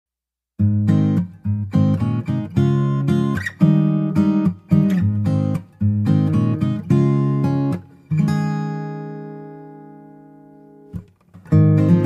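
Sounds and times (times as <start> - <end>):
acoustic guitar strumming: 0.6 - 12.0.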